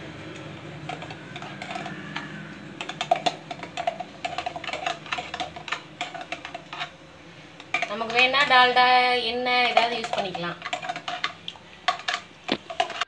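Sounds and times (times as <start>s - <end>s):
ghee crackling in hot pan: 0.0s - 13.0s.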